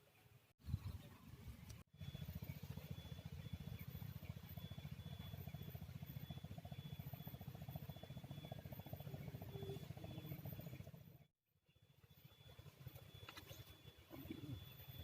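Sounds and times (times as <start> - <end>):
small engine chugging: 1.5 - 15.0.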